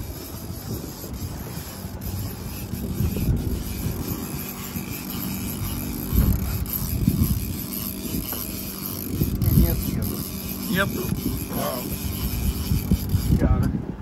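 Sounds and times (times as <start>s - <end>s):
boat engine rumbling: 0.0s - 14.0s
wind buffeting microphone: 0.0s - 14.0s.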